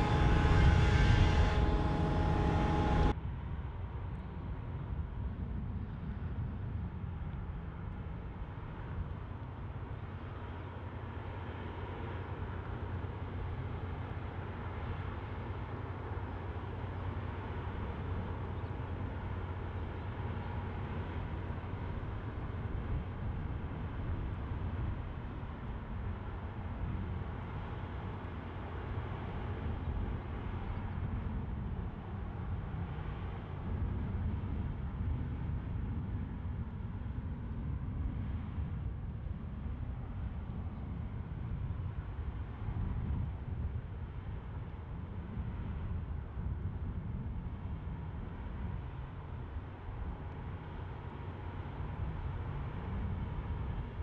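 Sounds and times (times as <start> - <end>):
low rumble of distant engines: 0.0 - 54.0.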